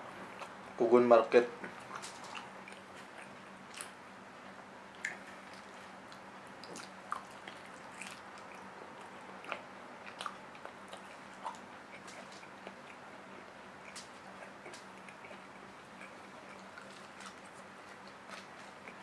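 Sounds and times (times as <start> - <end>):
faint steady hum: 0.0 - 19.0
wet chewing and lip smacks: 1.6 - 19.0.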